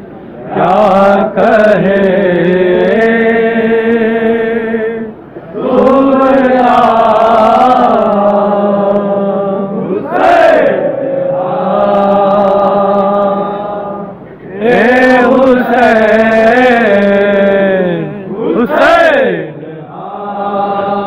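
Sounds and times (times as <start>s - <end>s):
men chanting a lament: 0.4s - 21.0s.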